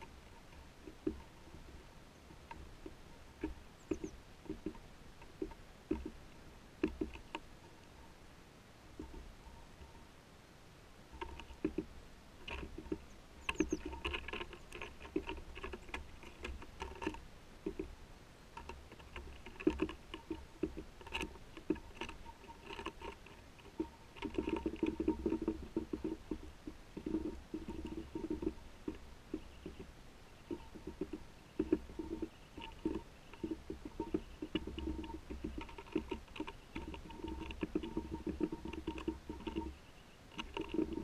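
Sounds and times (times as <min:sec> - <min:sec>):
birds pecking at bird table: 0:00.0 - 0:08.2, 0:08.9 - 0:10.1, 0:11.1 - 0:41.0.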